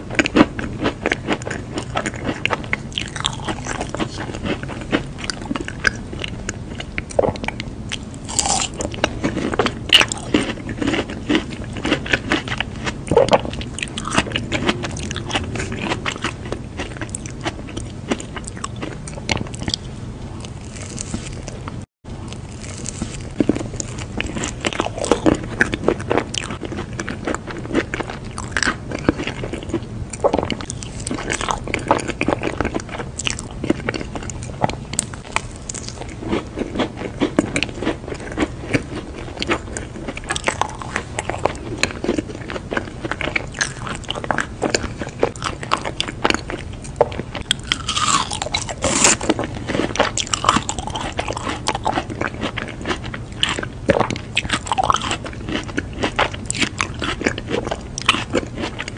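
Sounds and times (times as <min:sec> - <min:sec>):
wet chewing: 0:00.1 - 0:58.9.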